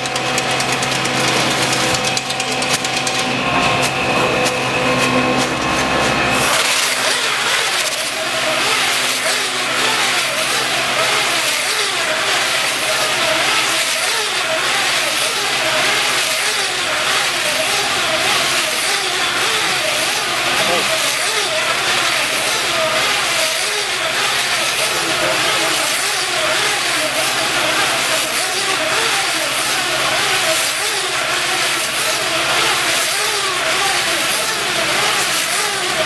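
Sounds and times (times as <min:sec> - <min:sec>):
bale wrapper hissing and whining: 0:04.0 - 0:36.0.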